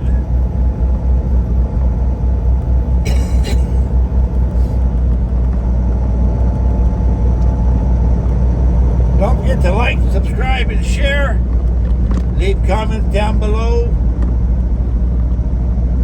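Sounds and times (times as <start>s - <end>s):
diesel truck engine rumble: 0.0s - 16.0s
road noise: 0.0s - 16.0s.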